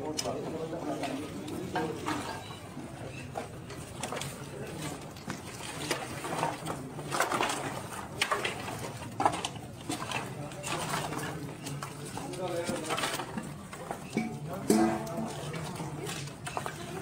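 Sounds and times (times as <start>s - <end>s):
firewood logs knocking and clattering: 0.0s - 17.0s
murmur of voices: 0.0s - 17.0s.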